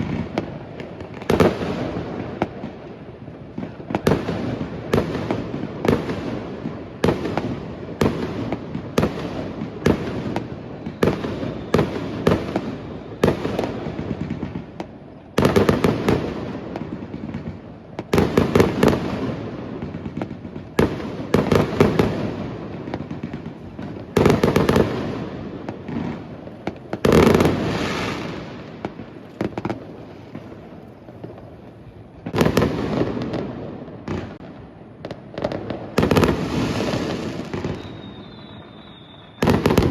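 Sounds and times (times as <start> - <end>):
firework bursts with crackling: 0.0 - 39.9
fireworks bangs: 0.0 - 39.9.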